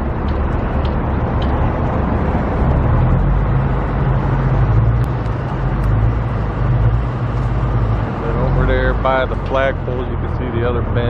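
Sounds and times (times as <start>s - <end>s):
low rumble of vehicle engine: 0.0s - 11.0s
traffic: 0.0s - 11.0s.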